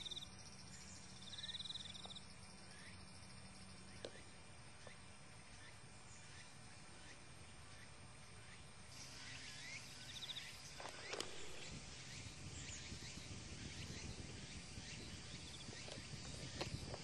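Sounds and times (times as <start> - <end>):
bird chirps: 0.0 - 16.9
high insect drone: 0.0 - 17.0
low wind rumble: 0.0 - 17.0.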